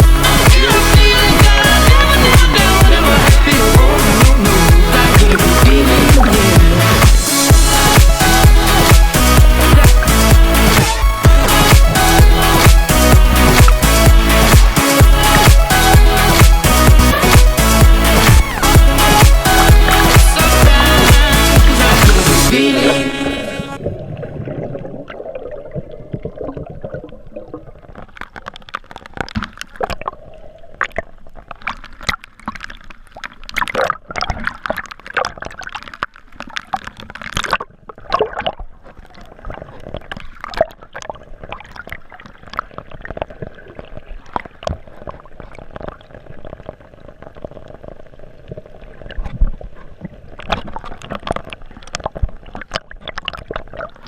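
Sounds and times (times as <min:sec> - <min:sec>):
water splashing and gurgling: 0:00.0 - 0:54.0.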